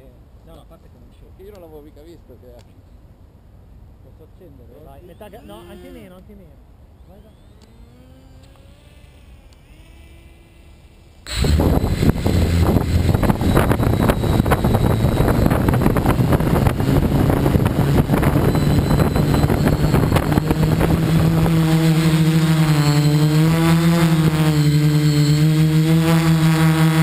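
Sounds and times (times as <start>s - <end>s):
quadcopter motors and propellers: 4.6s - 27.0s.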